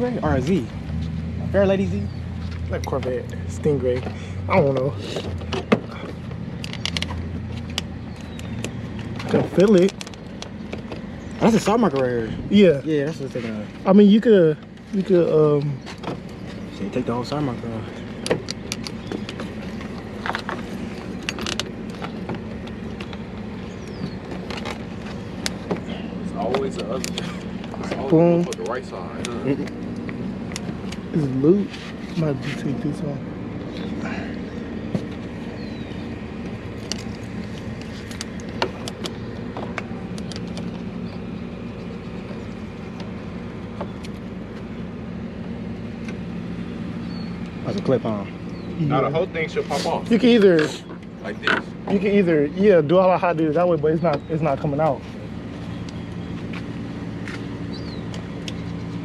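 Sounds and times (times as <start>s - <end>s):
car engine humming: 0.0s - 59.0s.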